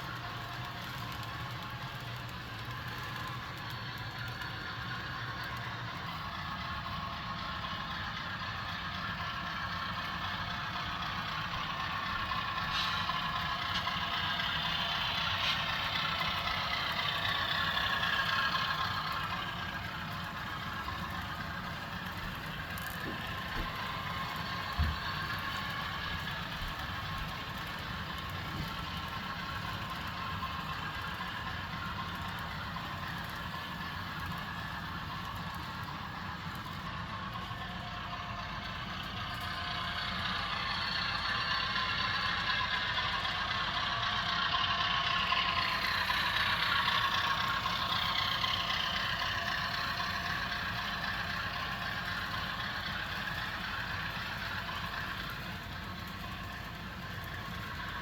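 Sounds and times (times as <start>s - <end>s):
model train running: 0.0s - 58.0s.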